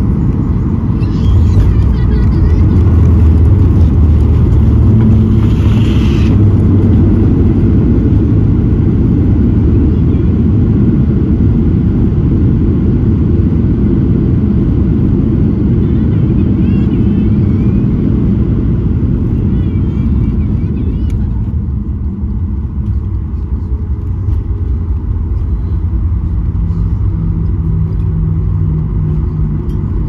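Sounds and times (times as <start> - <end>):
aircraft cabin low rumble: 0.0 - 30.0.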